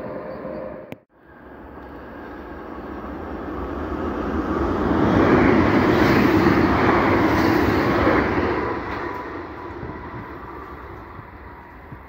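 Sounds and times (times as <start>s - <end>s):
electric train passing at speed: 0.0s - 12.0s.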